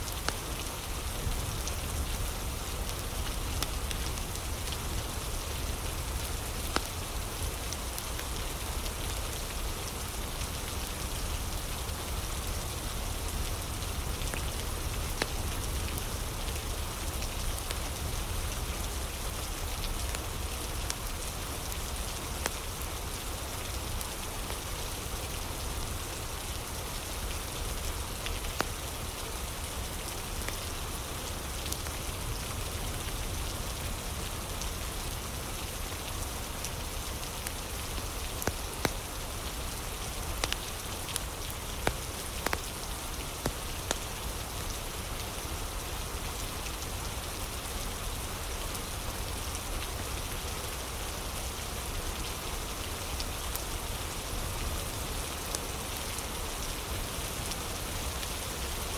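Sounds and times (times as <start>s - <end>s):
fire crackles: 0.0s - 58.9s
steady rain: 0.0s - 58.9s.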